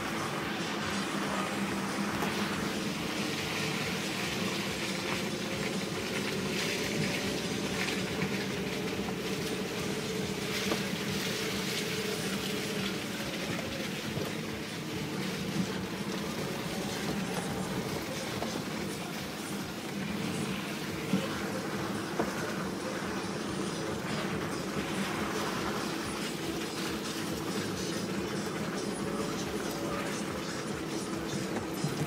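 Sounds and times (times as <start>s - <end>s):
car engine running under load: 0.0s - 32.0s.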